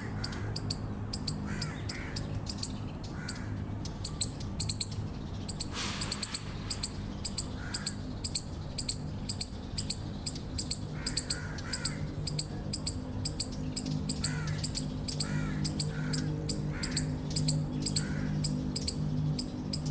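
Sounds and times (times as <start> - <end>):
chipmunk chipping: 0.0 - 19.9.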